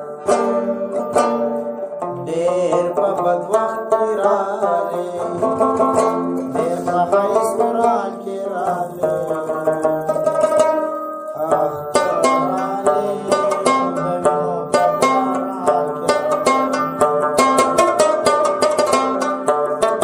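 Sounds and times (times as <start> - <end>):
plucked string music: 0.0 - 20.0.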